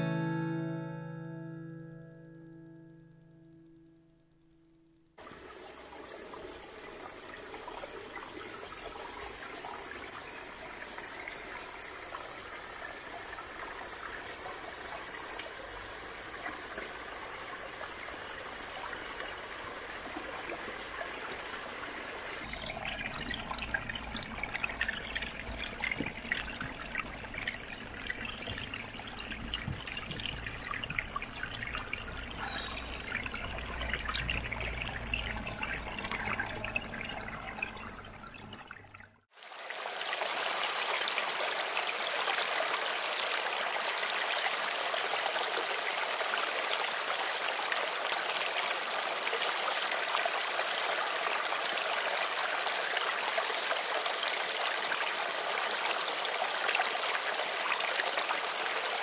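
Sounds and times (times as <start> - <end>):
stream water trickling and running: 5.2 - 59.0.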